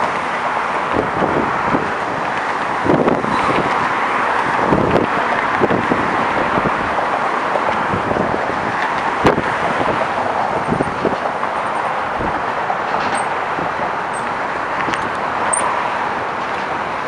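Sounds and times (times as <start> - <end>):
traffic rushing past: 0.0 - 17.0.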